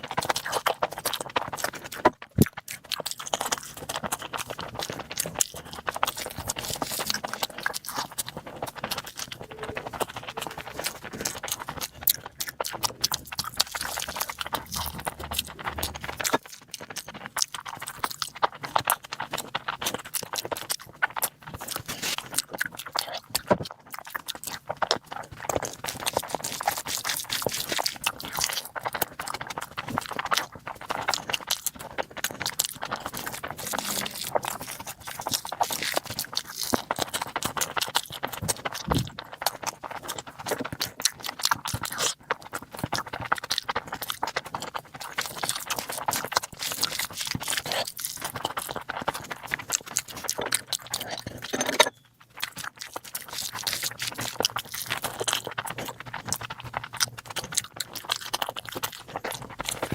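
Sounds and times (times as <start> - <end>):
chewing and mouth clicks: 0.0 - 59.9.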